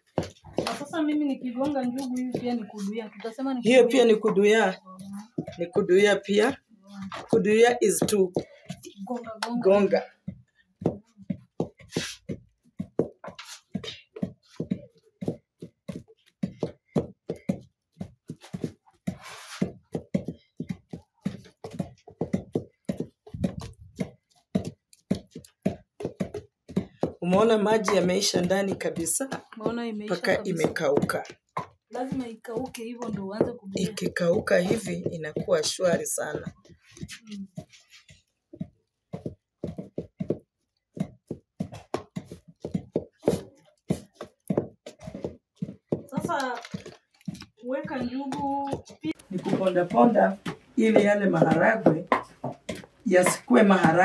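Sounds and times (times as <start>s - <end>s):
wooden stick pounding beans in pot: 0.0s - 54.0s.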